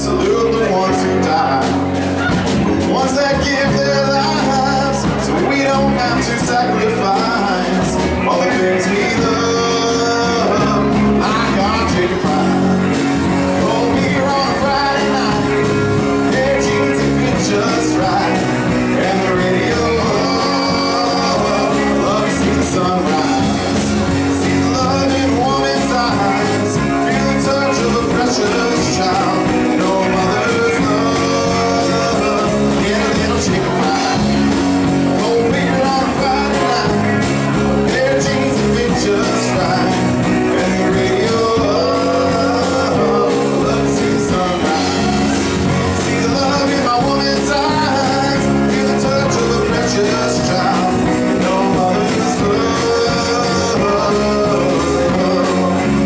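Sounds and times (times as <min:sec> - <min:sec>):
drums: 0:00.0 - 0:56.0
electric guitar: 0:00.0 - 0:56.0
keyboard: 0:00.0 - 0:56.0
man singing into microphone: 0:00.0 - 0:56.0.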